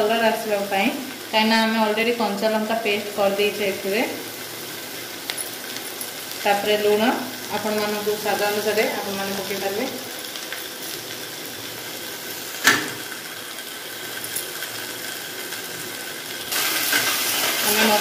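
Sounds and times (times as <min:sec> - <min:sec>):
paste sizzling in oil: 0:00.3 - 0:18.0.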